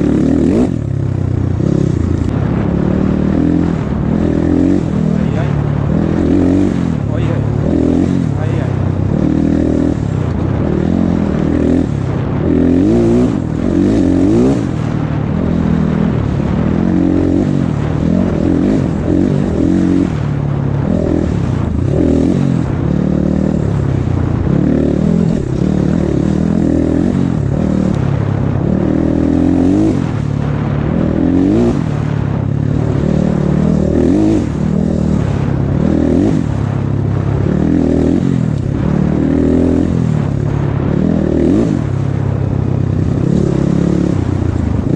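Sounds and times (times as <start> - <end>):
off-road motorcycle engine revving: 0.0 - 44.9.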